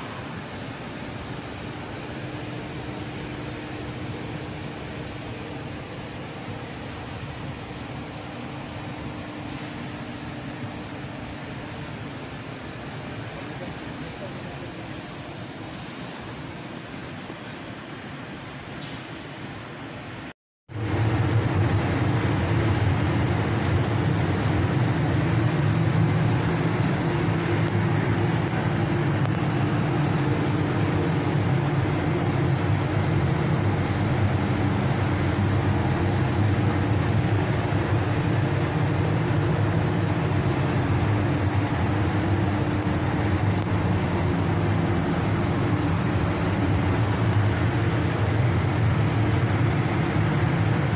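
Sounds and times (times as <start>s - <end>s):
ventilation fans humming: 0.0s - 19.1s, 19.8s - 50.9s.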